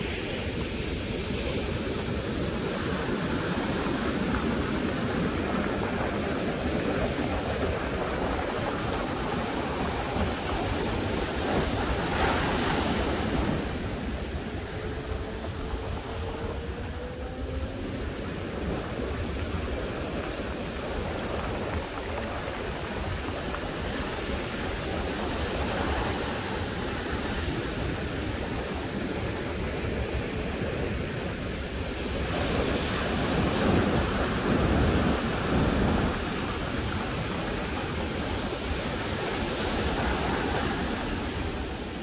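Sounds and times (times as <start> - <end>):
ocean surf breaking on beach: 0.0 - 42.0.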